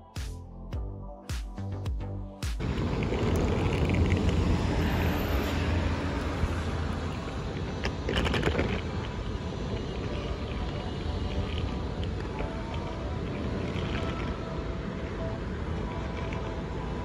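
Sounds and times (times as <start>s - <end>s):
suitcase wheels rumbling on paving: 2.6s - 17.0s.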